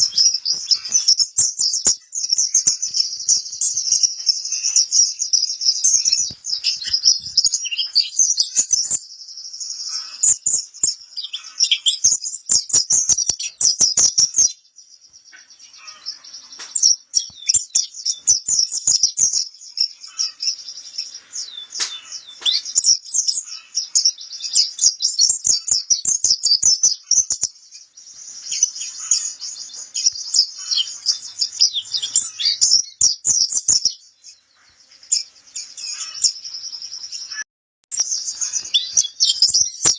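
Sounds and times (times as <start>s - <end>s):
bird twittering chatter: 0.0s - 39.9s.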